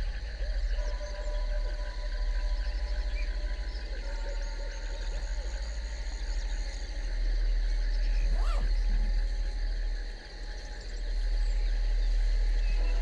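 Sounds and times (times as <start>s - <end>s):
chorus of insects or frogs: 0.0s - 13.0s
low pulsing drone: 0.0s - 13.0s.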